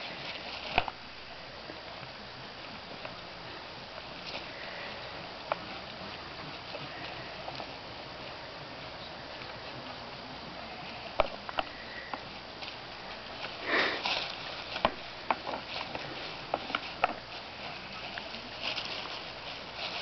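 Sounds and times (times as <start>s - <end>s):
hooves scuffling in dry leaves: 0.0s - 20.0s.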